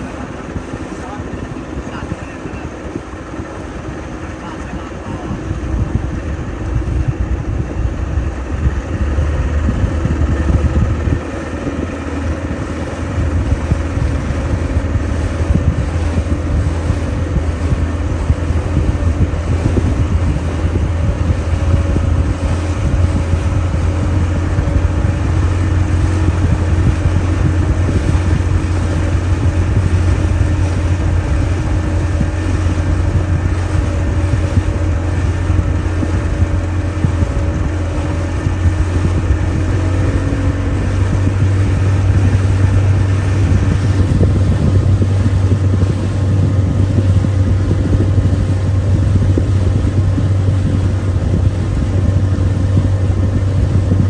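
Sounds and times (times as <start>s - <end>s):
motorboat engine running: 0.0s - 54.0s
wind buffeting microphone: 0.0s - 54.0s.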